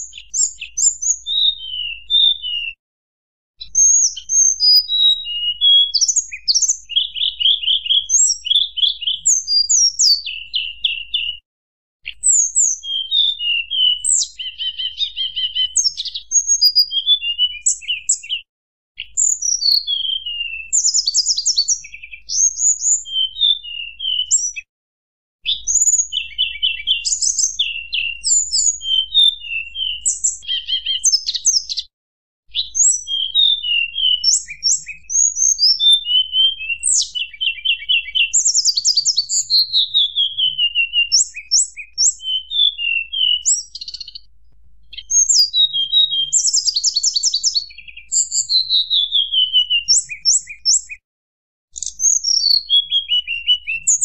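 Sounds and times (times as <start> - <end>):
bird singing whistled notes: 0.0 - 2.8, 3.6 - 11.4, 12.0 - 24.7, 25.4 - 31.9, 32.5 - 51.0, 51.7 - 54.0.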